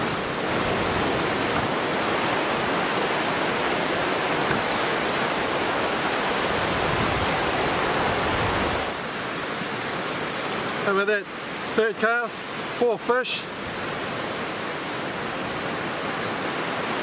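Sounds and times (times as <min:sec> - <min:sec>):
surf breaking on a beach: 0:00.0 - 0:17.0.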